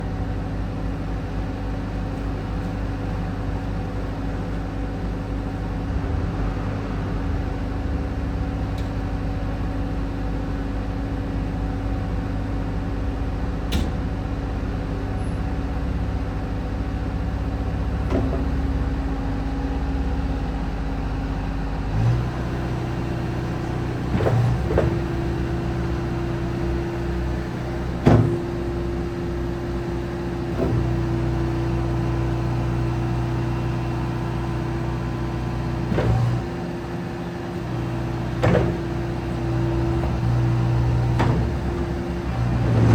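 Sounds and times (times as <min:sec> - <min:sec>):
diesel engine running: 0:00.4 - 0:42.9.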